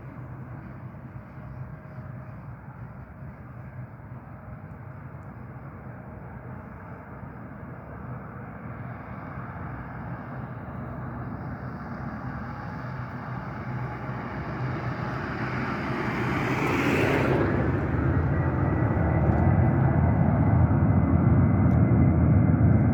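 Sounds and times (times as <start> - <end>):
jet airliner engines: 0.0 - 22.9.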